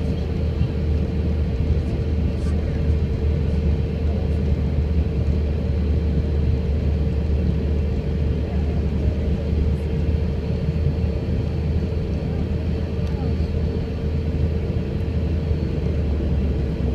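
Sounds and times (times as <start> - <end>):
airliner cabin engine rumble: 0.0 - 16.9
constant hum: 0.0 - 16.9.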